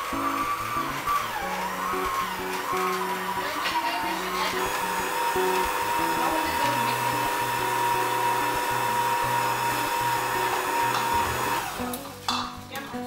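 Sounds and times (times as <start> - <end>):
stand mixer motor whining: 0.0 - 12.0
instrumental background music: 0.0 - 13.0.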